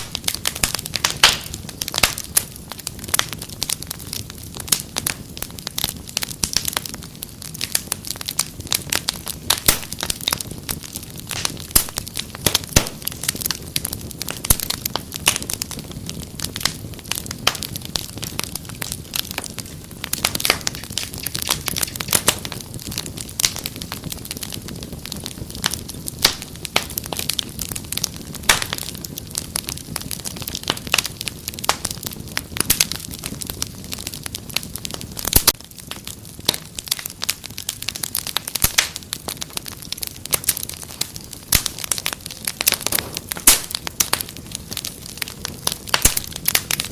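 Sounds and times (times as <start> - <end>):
low rumble of flames: 0.0 - 46.9
wood fire crackling: 0.0 - 46.9.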